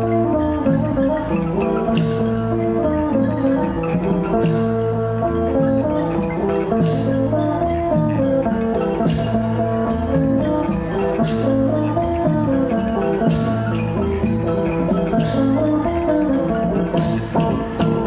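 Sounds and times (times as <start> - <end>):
folk dance music: 0.0 - 18.0.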